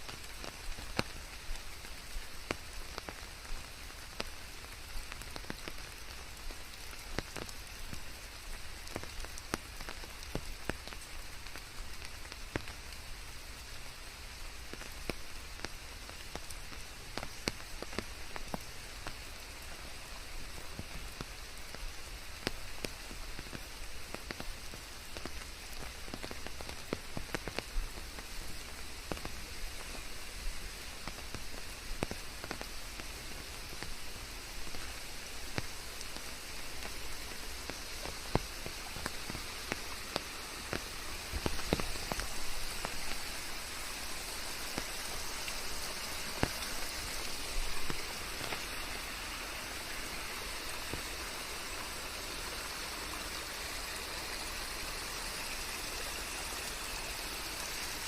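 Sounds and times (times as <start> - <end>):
raindrops ticking on a surface: 0.0 - 58.0
steady rain falling: 0.0 - 58.0.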